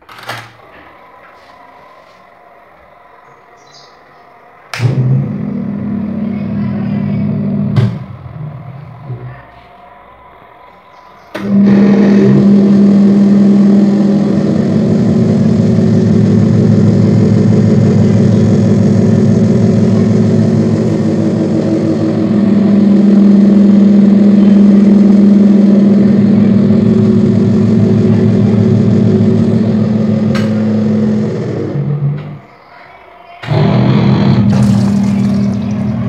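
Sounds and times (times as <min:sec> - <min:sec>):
washing machine motor humming: 0:00.0 - 0:36.0.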